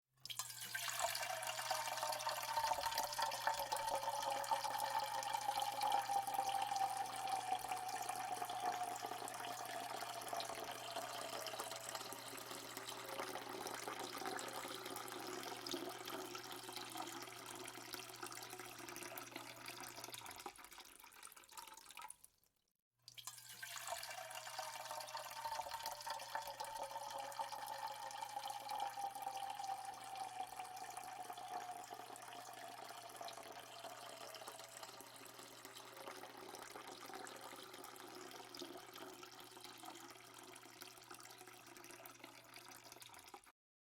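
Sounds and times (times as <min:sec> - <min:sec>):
water pouring into metal tray: 0:00.2 - 0:22.3, 0:23.1 - 0:43.5.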